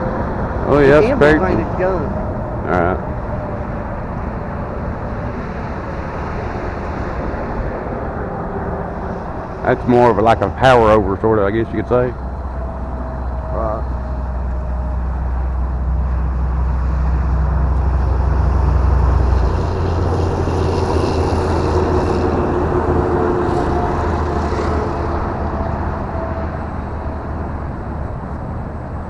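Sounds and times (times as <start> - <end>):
heavy low rumble: 0.0 - 29.0.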